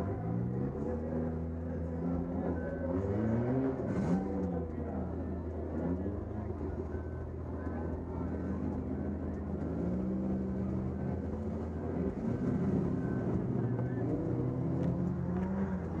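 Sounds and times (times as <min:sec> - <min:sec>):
car engine running wavering pitch: 0:00.0 - 0:16.0.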